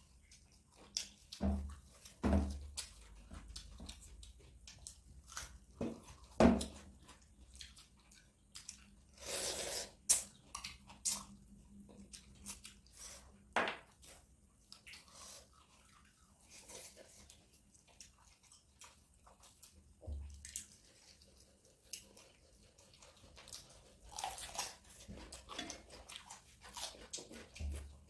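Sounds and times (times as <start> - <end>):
wet chewing and lip smacks: 0.0 - 28.0.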